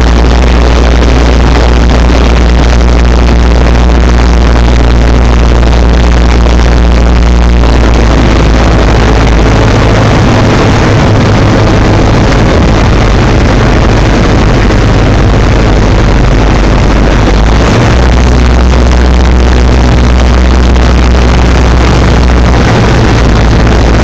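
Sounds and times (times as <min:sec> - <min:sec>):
light aircraft engine and propeller: 0:00.0 - 0:24.0.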